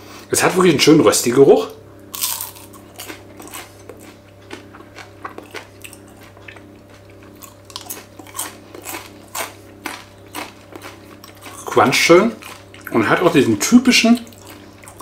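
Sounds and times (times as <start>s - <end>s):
person chewing crispy fries: 2.0s - 15.0s.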